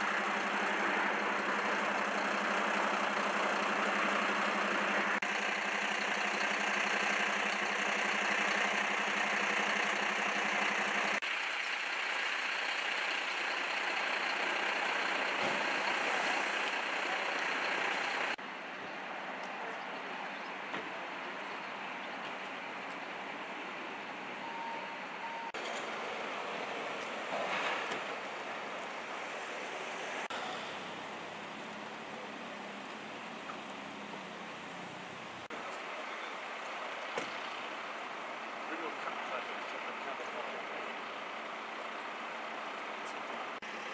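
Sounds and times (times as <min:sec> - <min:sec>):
vehicle engines idling: 0:00.0 - 0:43.9.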